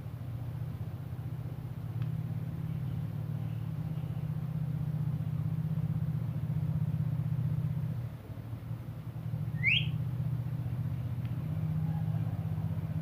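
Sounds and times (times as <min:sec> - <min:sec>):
engine hum idling: 0:00.0 - 0:13.0.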